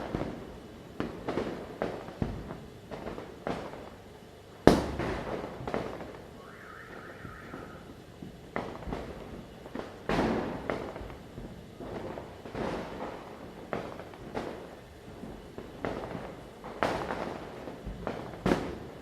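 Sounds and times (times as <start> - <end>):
firecrackers bursting: 0.0 - 19.0.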